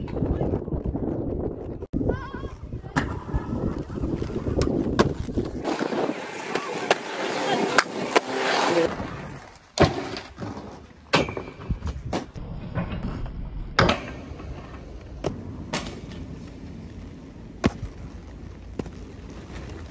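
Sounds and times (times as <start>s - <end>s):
inline skates rolling on asphalt: 0.1s - 11.1s, 11.8s - 19.9s.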